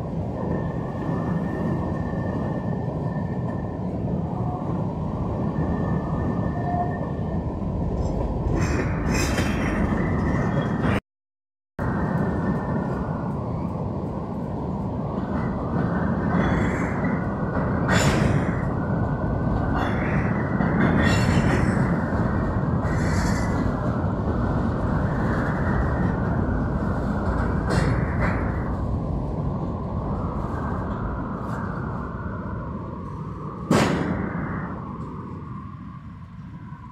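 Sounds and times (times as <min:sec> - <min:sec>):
freight train wheels rumbling: 0:00.0 - 0:11.0, 0:11.8 - 0:36.9.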